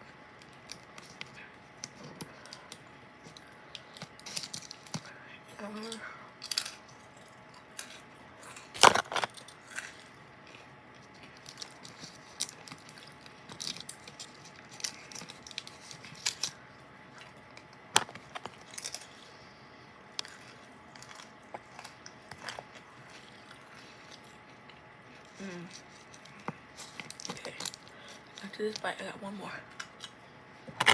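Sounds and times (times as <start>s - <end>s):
crackers crunching and chewing: 0.0s - 29.1s, 29.7s - 30.9s.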